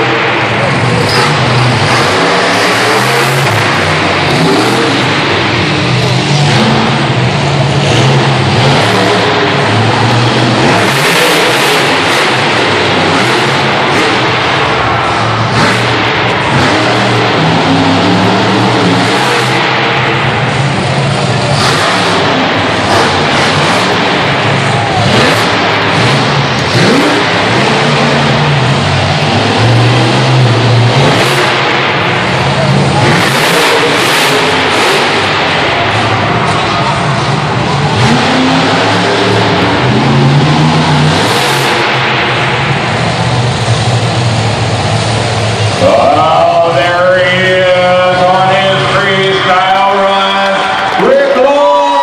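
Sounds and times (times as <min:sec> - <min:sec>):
monster truck engine revving: 0:00.0 - 0:52.0.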